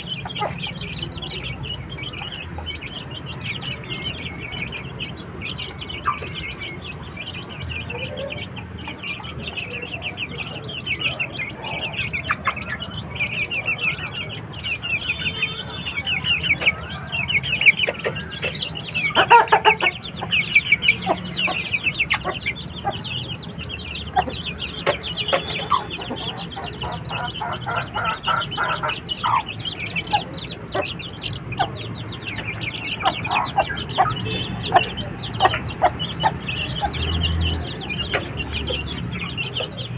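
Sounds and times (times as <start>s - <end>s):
chickens clucking: 0.0s - 39.9s
dense high-pitched chirping: 0.0s - 39.9s.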